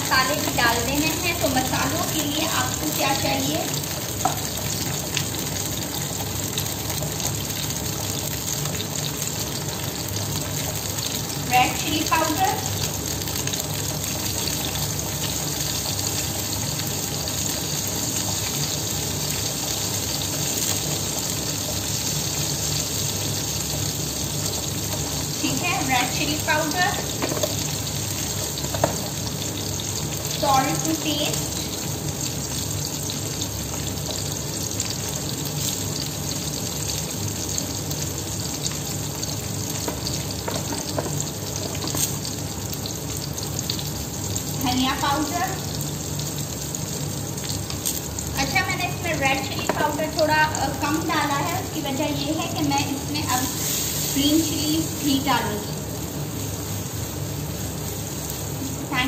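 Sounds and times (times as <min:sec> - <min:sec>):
vegetable slices sizzling in oil: 0:00.0 - 0:59.0.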